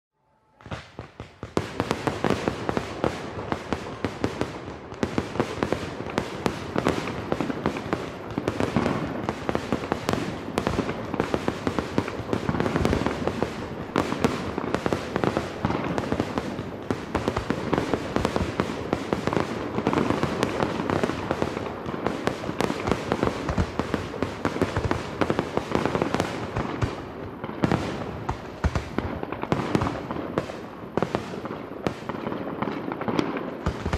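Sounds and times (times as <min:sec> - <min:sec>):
fireworks bangs: 0:00.6 - 0:33.9.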